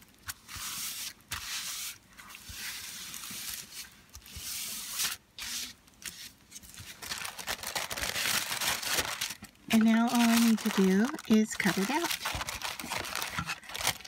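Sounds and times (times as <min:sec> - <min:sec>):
tissue paper rustling: 0:00.2 - 0:14.0.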